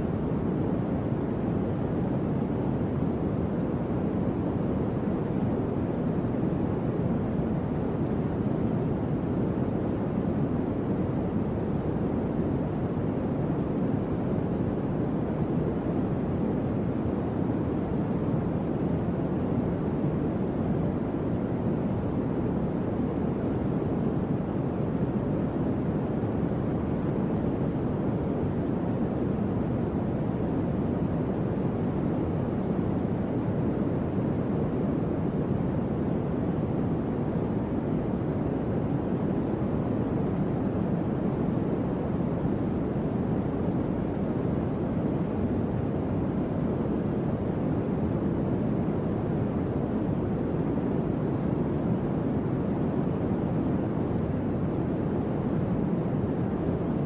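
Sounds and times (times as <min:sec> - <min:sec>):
electric fan rush of air: 0:00.0 - 0:57.0.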